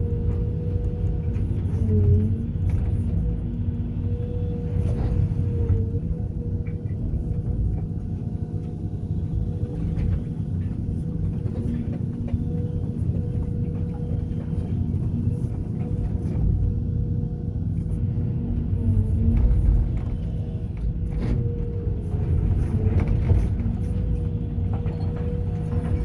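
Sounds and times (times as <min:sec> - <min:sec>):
excavator diesel engine rumble: 0:00.0 - 0:26.0.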